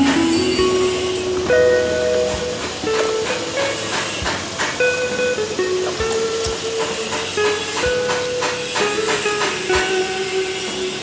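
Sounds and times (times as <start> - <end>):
melody of held notes: 0.0 - 11.0.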